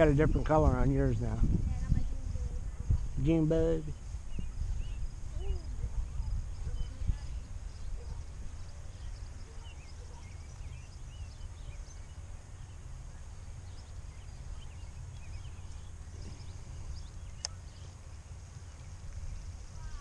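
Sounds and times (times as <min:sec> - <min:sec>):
small birds chirping faintly: 0:00.0 - 0:20.0
wind buffeting microphone: 0:00.0 - 0:20.0.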